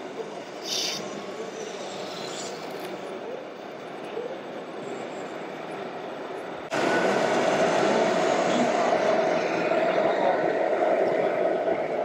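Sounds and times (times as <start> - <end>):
steady drone: 0.0 - 12.0.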